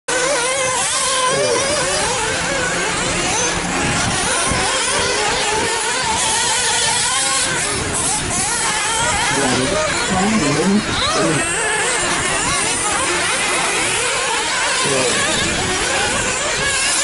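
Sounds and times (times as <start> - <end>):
rc car engines whining: 0.1 - 17.0.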